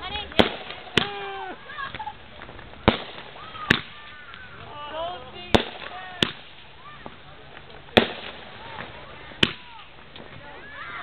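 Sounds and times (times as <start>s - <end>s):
fireworks bangs: 0.0s - 10.3s
voices calling out: 0.0s - 11.0s.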